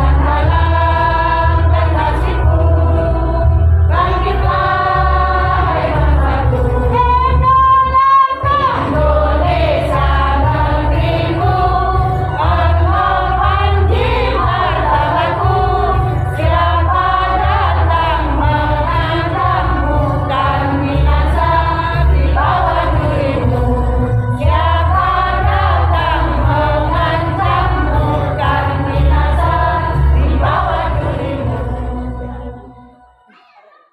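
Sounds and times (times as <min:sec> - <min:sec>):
women's choir singing: 0:00.0 - 0:33.3.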